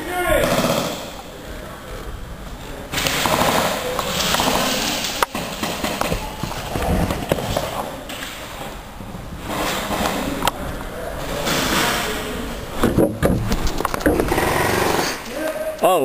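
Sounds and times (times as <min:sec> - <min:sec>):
sharp cracks: 0:00.0 - 0:01.4, 0:02.9 - 0:08.6, 0:09.4 - 0:15.8
footsteps and movement: 0:00.3 - 0:16.0.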